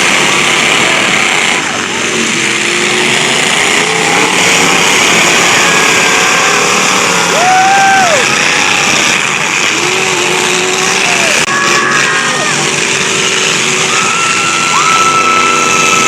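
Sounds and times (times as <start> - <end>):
car engines running together: 0.0 - 16.0
engine revving: 0.0 - 16.0.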